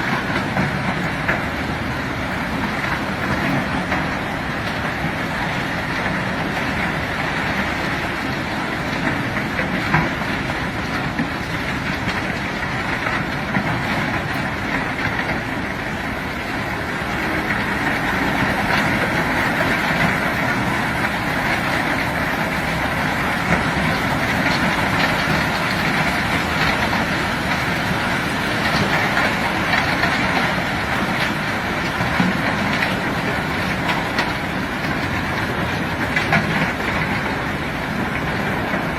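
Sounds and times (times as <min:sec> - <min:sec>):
heavy machinery running: 0:00.0 - 0:38.9.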